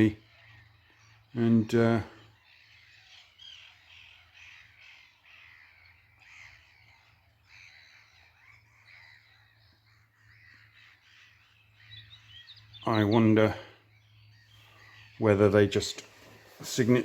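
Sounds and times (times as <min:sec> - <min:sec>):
distant birds calling: 0:00.0 - 0:17.0.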